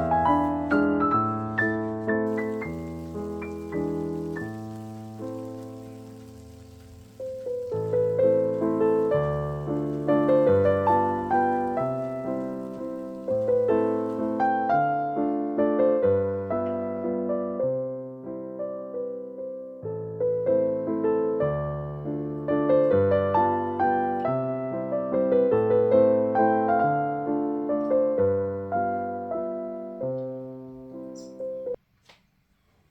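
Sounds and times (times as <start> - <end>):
gentle piano music: 0.0 - 31.8.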